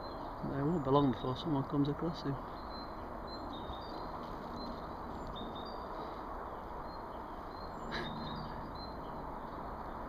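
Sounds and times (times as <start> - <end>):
background hiss and rumble: 0.0 - 10.0
birds chirping: 0.0 - 10.0.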